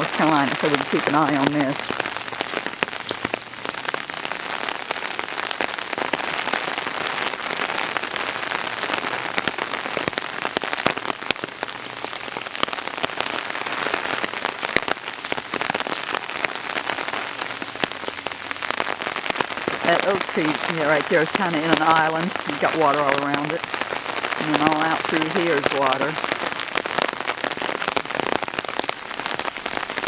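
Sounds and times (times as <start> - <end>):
rain falling: 0.0 - 30.0
raindrops tapping on umbrella: 0.0 - 30.0.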